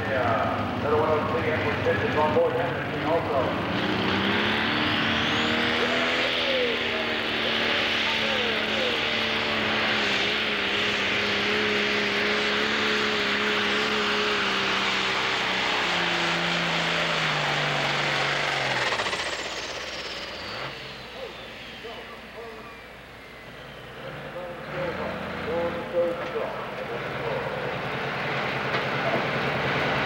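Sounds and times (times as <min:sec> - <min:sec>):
diesel engine at full throttle: 0:00.0 - 0:30.0.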